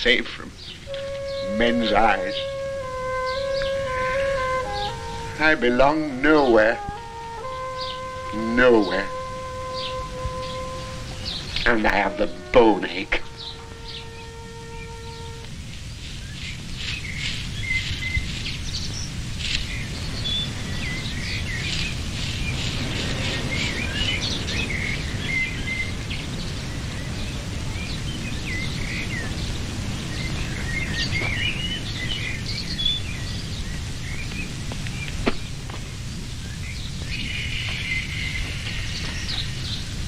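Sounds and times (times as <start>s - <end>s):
low background noise: 0.0s - 40.0s
birds chirping and singing: 0.1s - 40.0s.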